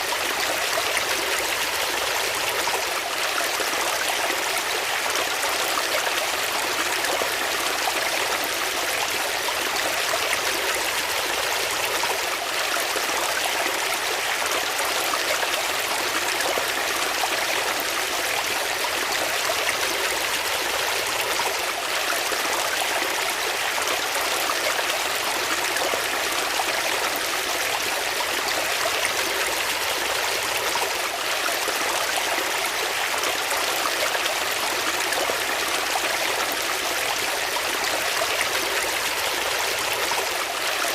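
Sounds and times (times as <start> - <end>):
water flowing steadily: 0.0 - 40.9.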